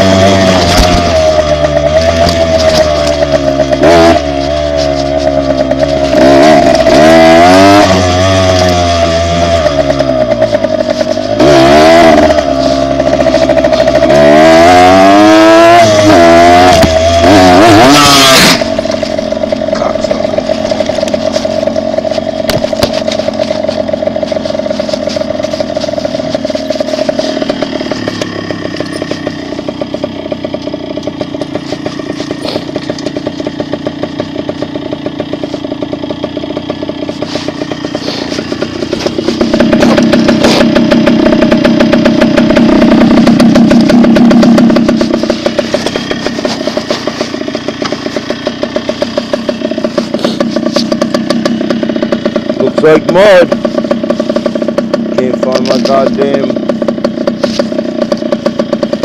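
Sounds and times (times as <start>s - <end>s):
dirt bike engine revving and idling: 0.0s - 59.0s.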